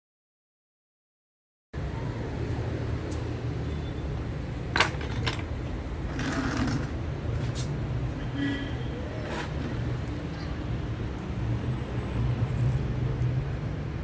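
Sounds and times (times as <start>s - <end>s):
low city rumble: 1.8s - 14.0s.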